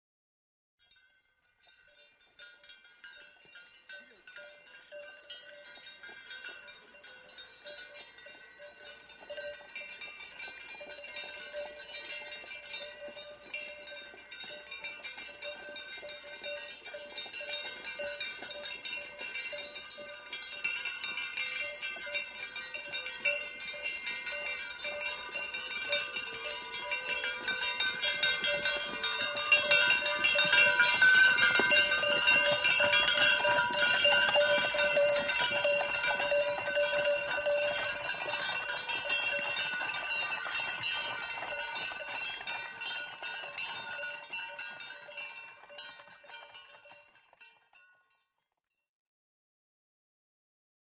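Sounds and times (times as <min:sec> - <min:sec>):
cowbell clanking: 0:00.8 - 0:48.2.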